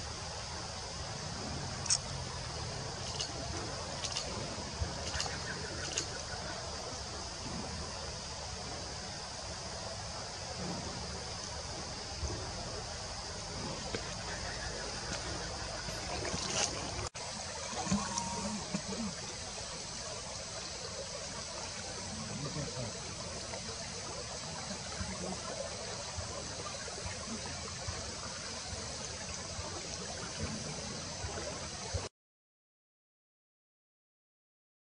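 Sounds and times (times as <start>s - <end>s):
outdoor background hiss: 0.0s - 32.1s.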